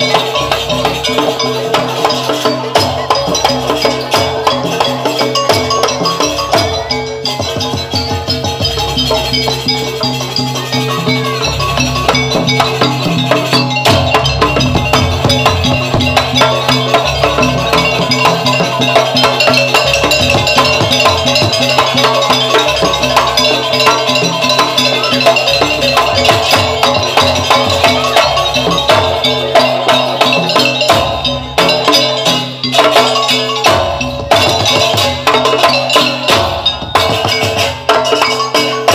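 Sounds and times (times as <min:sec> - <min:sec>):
bronze metallophones: 0:00.0 - 0:38.9
drums: 0:00.0 - 0:38.9.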